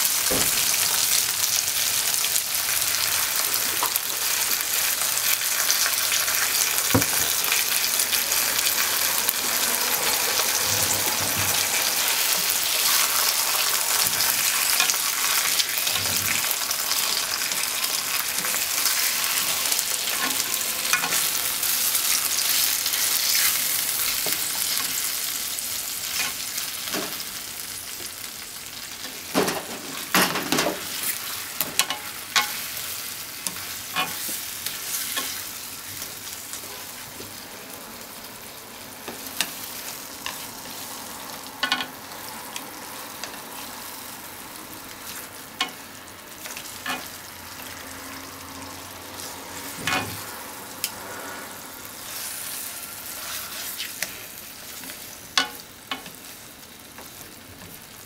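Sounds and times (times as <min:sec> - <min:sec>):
meat and onions sizzling in a pan: 0:00.0 - 0:58.0.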